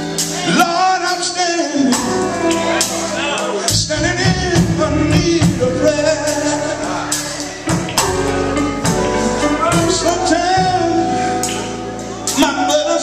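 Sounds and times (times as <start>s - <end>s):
band playing: 0.0s - 13.0s
men singing gospel: 0.0s - 13.0s.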